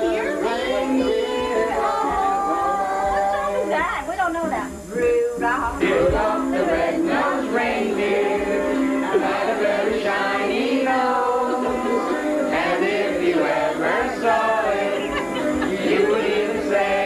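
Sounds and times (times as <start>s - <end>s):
group of people singing: 0.0s - 4.1s, 4.8s - 17.0s.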